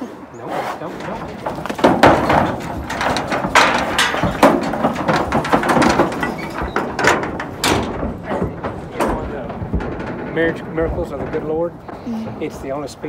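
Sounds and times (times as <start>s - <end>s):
cattle hooves on metal floor: 0.8s - 13.0s
metal gate banging and rattling: 0.8s - 13.0s.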